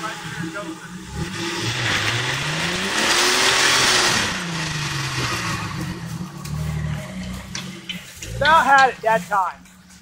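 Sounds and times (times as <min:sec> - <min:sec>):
engine revving hard: 0:00.0 - 0:08.6
tires spinning in dirt: 0:00.0 - 0:10.0.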